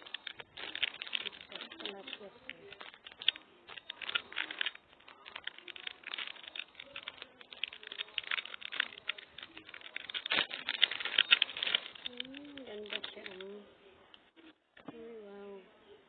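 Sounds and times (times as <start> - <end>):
plastic pouch crinkling: 0.0 - 13.6.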